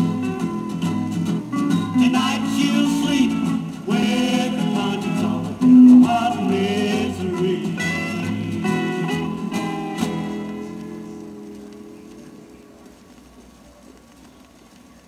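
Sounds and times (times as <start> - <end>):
country record with guitar: 0.0 - 14.8.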